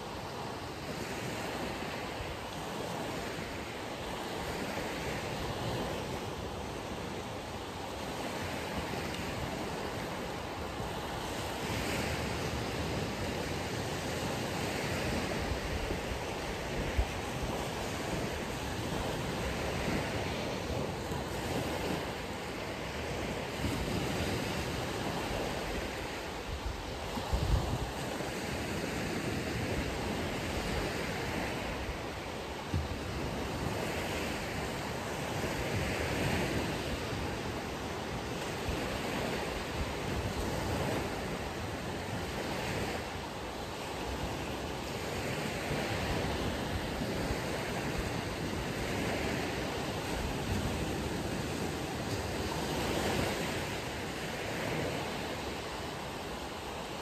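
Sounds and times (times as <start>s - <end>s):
ocean surf breaking: 0.0s - 57.0s
wind buffeting microphone: 0.3s - 56.5s.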